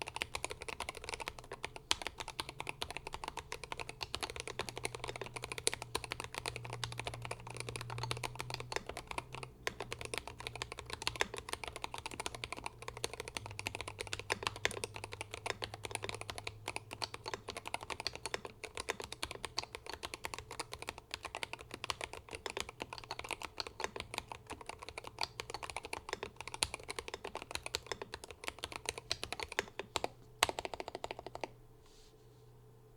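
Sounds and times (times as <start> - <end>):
fast keyboard typing: 0.0 - 31.6.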